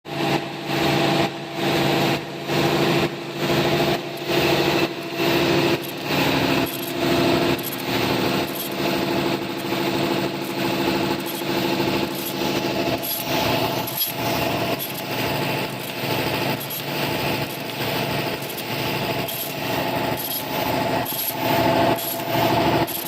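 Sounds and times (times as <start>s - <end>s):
machine humming with rhythmic surge: 0.1s - 23.0s.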